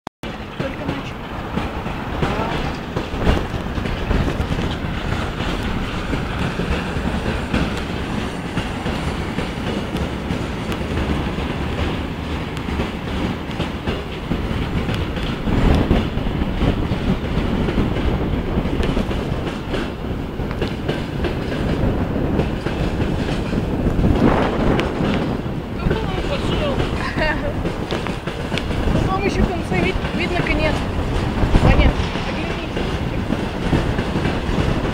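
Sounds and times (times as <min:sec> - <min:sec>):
freight train wheels clattering: 0:00.2 - 0:34.9.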